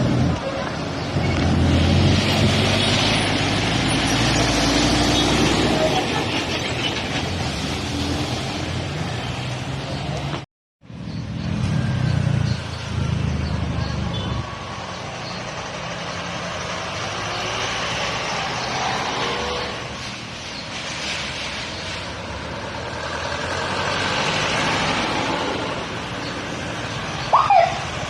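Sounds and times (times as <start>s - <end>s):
trucks passing on road: 0.0s - 28.0s.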